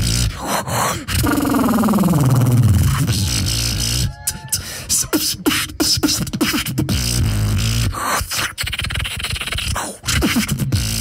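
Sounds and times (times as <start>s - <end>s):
person beatboxing into microphone: 0.0s - 11.0s.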